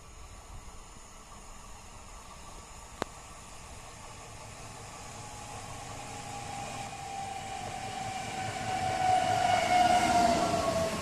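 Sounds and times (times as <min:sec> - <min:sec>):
electric train whine falling in pitch: 0:00.0 - 0:11.0
train rolling noise: 0:00.0 - 0:11.0.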